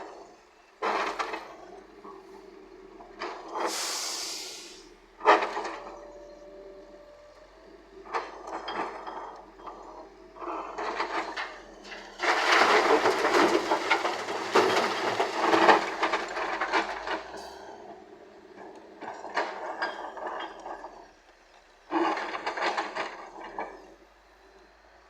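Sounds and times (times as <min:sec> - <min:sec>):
diesel engine running low: 0:00.0 - 0:25.0
soil and stones clattering: 0:00.0 - 0:25.0.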